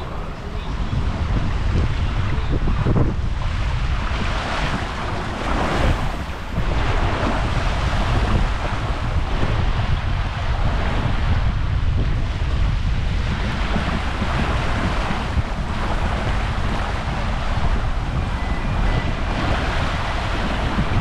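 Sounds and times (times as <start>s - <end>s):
water rushing and splashing: 0.0s - 21.0s
wind buffeting the microphone: 0.0s - 21.0s.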